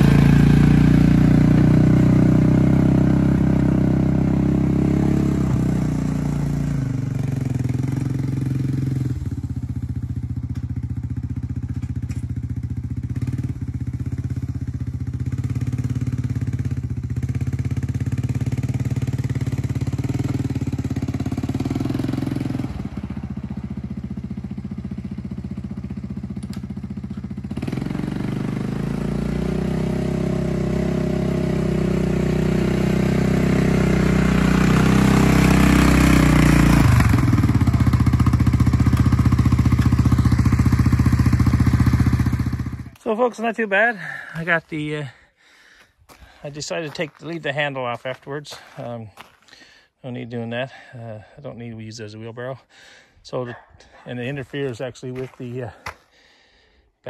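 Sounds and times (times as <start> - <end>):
quad engine running: 0.0 - 45.2, 46.2 - 49.4, 53.3 - 56.0.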